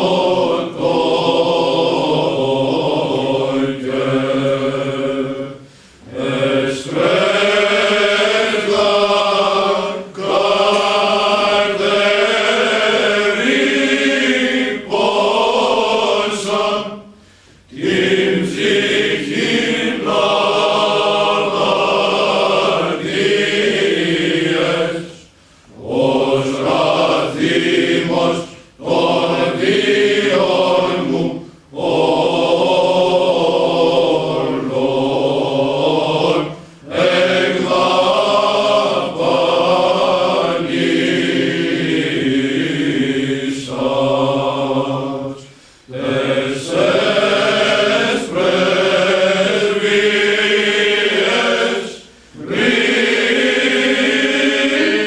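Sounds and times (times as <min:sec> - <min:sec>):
male choir singing unaccompanied: 0:00.0 - 0:55.0.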